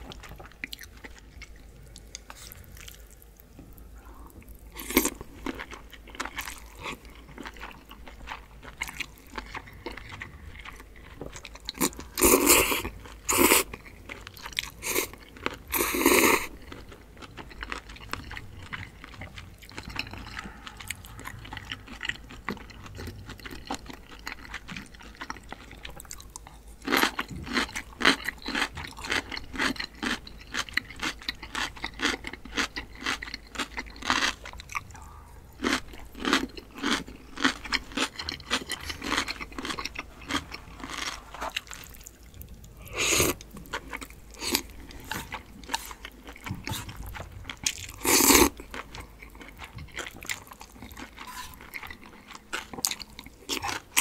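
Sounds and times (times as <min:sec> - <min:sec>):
crisp chewing crunches: 0:04.7 - 0:54.0.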